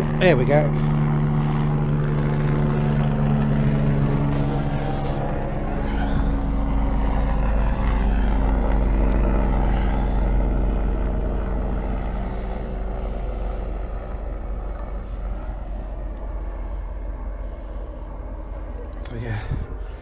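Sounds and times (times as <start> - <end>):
passing vehicle engine drone: 0.0 - 20.0.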